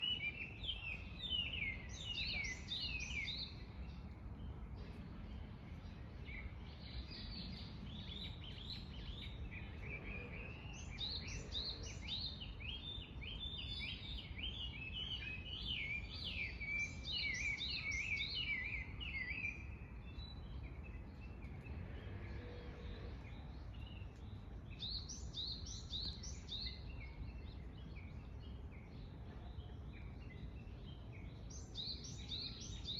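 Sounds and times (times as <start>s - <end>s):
small songbirds chirping: 0.0s - 32.9s.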